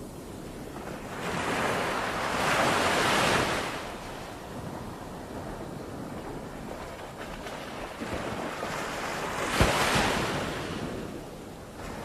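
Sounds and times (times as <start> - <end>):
ocean surf on a beach: 0.0 - 12.0.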